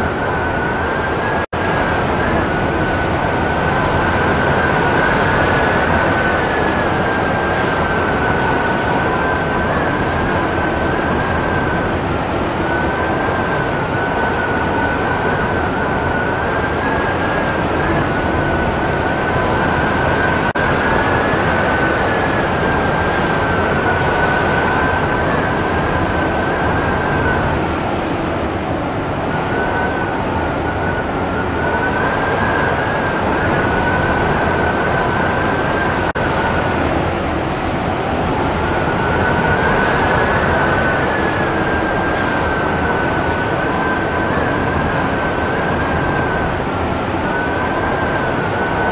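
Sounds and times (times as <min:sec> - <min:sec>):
high wind whistle: 0:00.0 - 0:48.9
strong wind on microphone: 0:00.0 - 0:48.9.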